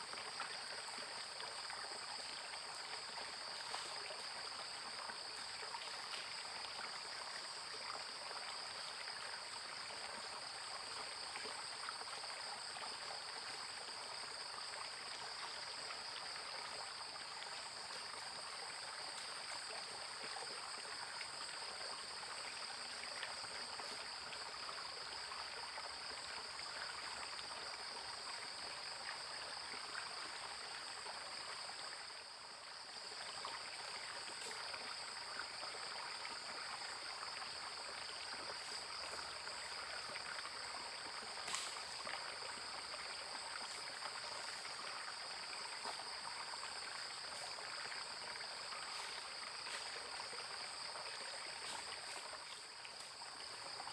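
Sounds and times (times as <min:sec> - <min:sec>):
floodwater running and trickling: 0:00.0 - 0:53.9
high-pitched insect chorus: 0:00.0 - 0:53.9.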